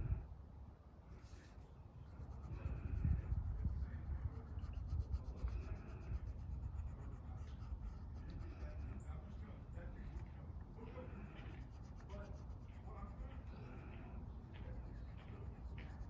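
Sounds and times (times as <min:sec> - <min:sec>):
steady low rumble: 0:00.0 - 0:00.4, 0:01.2 - 0:16.0
scribbling on paper: 0:01.2 - 0:09.5, 0:11.0 - 0:16.0.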